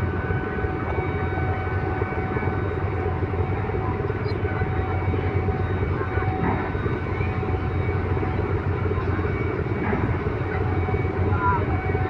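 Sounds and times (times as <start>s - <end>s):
ferry engine drone: 0.0s - 12.0s.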